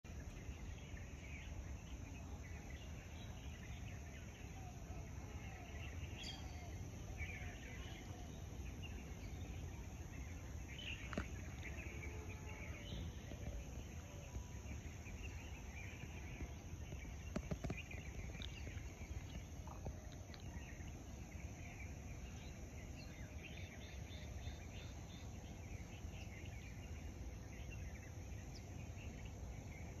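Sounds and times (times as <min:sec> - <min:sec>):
birds chirping: 0:00.0 - 0:30.0
low background rumble: 0:00.1 - 0:30.0.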